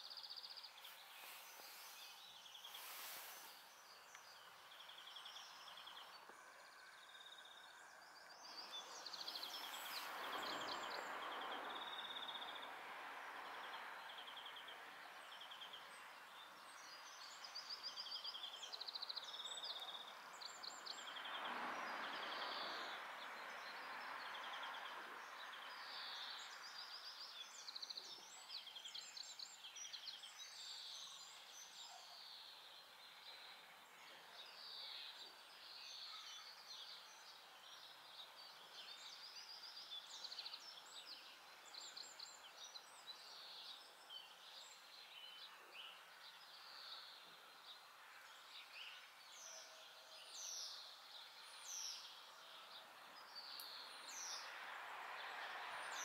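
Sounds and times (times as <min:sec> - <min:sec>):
light outdoor hiss: 0:00.0 - 0:56.0
wild birds chirping and trilling: 0:00.0 - 0:56.0.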